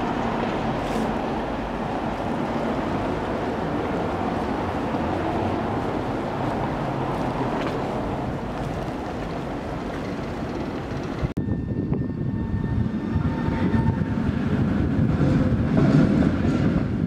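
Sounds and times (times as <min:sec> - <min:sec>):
street rumble: 0:00.0 - 0:17.0
tram rumbling on rails: 0:00.0 - 0:17.0.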